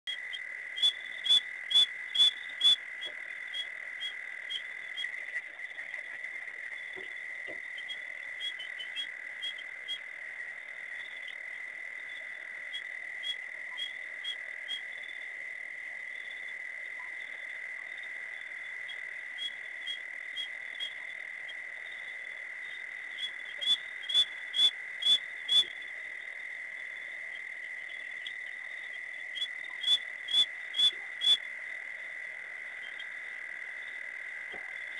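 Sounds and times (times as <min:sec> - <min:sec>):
frogs calling: 0:00.1 - 0:34.9.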